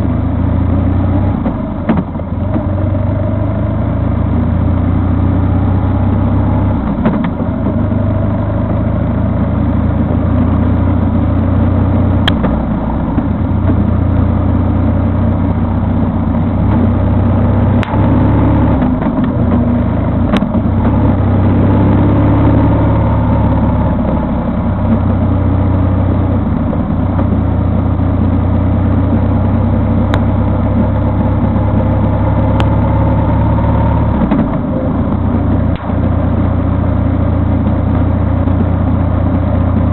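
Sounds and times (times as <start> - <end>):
road noise: 0.0 - 39.9
vehicle engine drone: 0.0 - 39.9.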